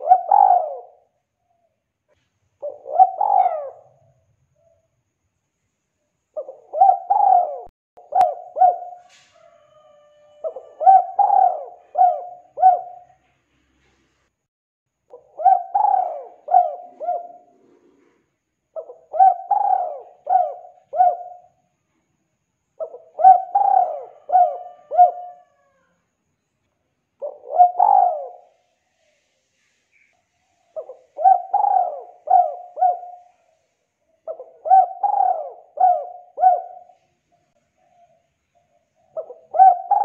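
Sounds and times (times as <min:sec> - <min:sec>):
dove cooing: 0:00.0 - 0:01.2, 0:02.6 - 0:04.9, 0:06.4 - 0:13.4, 0:15.1 - 0:21.6, 0:22.8 - 0:25.9, 0:27.2 - 0:29.3, 0:30.0 - 0:40.0.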